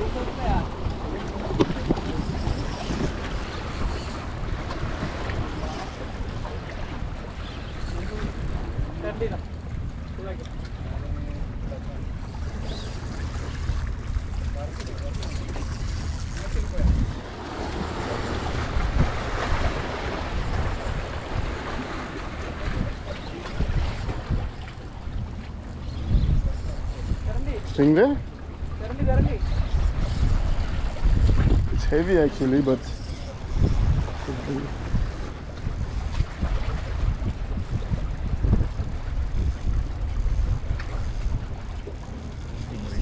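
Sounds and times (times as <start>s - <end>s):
sea waves: 0.0s - 43.0s
wind buffeting microphone: 0.0s - 43.0s.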